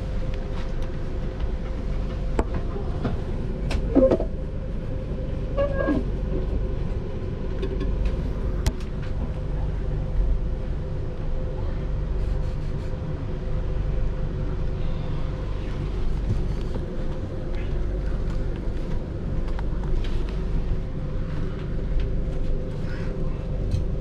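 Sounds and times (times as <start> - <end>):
constant hum: 0.0 - 24.0
train wheels rumbling on track: 0.0 - 24.0.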